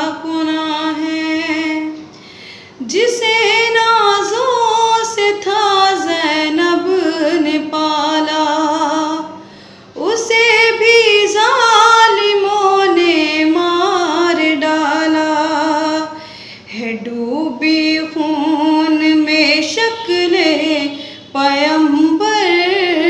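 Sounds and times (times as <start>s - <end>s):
woman singing a lament: 0.0s - 2.0s, 2.8s - 9.4s, 10.0s - 23.0s.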